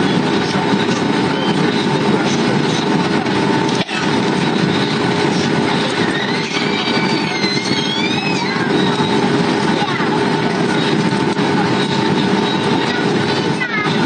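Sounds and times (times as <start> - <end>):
airliner cabin engine rush: 0.0 - 14.0.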